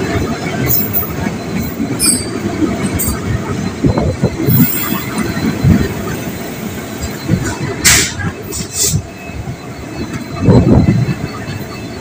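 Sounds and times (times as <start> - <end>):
train wheels rumbling on rails: 0.0 - 12.0
short high wheel squeals: 0.8 - 12.0.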